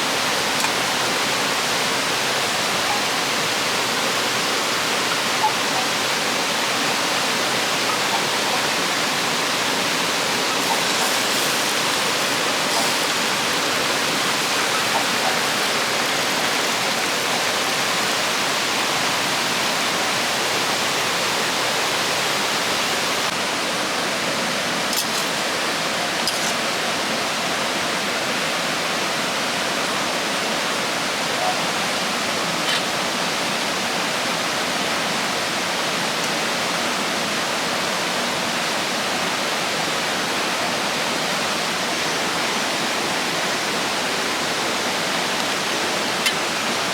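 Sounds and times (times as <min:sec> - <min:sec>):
rushing river water: 0:00.0 - 0:46.9.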